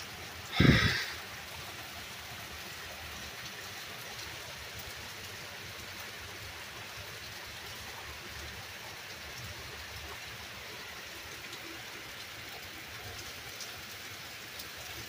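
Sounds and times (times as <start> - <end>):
rain falling on foliage: 0.0 - 15.0
water streaming off roof: 0.0 - 15.0.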